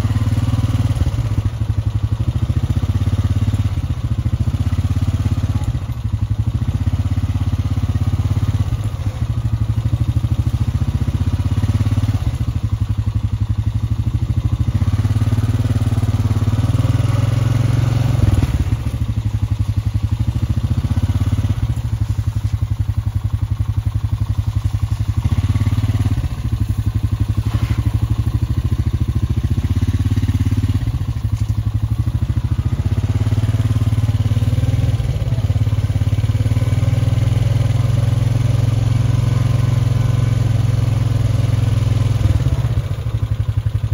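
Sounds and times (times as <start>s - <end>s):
motor engine running: 0.0s - 43.9s.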